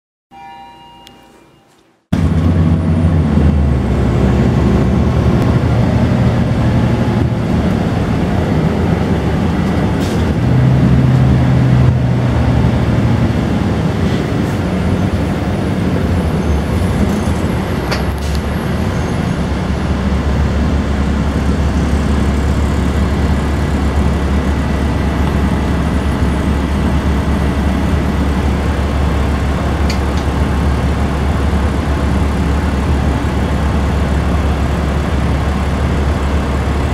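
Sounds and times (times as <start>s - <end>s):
bus diesel engine drone: 1.3s - 36.9s.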